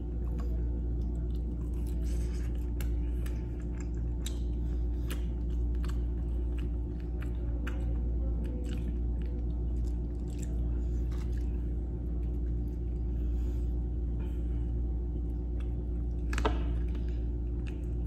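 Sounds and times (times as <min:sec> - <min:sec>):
man chewing wetly: 0:00.0 - 0:18.0
steady low hum: 0:00.0 - 0:18.0.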